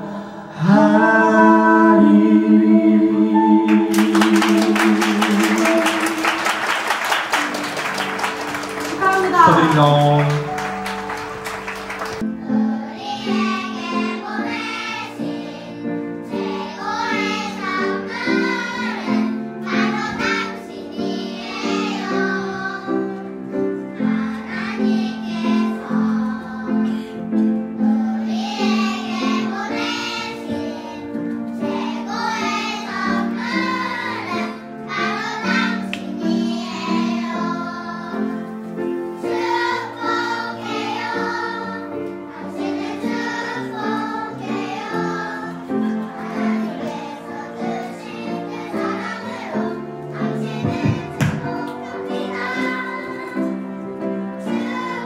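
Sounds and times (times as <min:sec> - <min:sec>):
children's choir singing: 0:00.0 - 0:55.0
instrumental accompaniment: 0:01.3 - 0:55.0.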